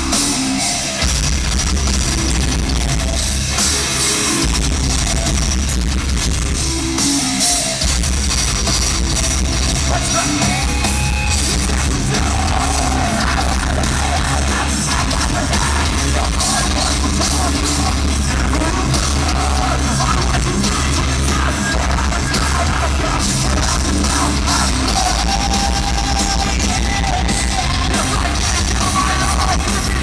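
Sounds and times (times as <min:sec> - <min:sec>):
distorted electric guitars: 0:00.0 - 0:30.0
drum kit: 0:00.0 - 0:30.0
heavy bass guitar: 0:00.0 - 0:30.0.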